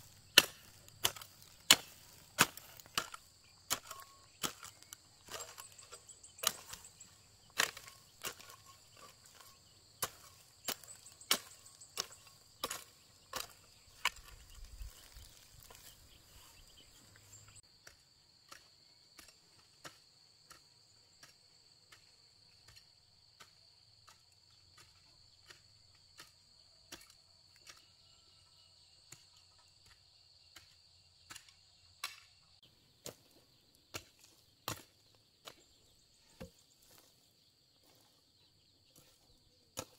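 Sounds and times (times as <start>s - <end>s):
hoe chopping into dry soil: 0.0s - 27.8s, 29.0s - 37.2s, 39.0s - 39.9s.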